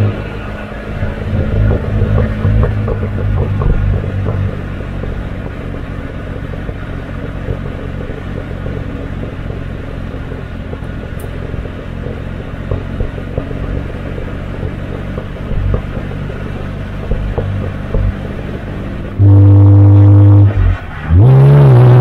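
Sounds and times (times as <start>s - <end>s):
car exhaust droning: 0.0s - 22.0s.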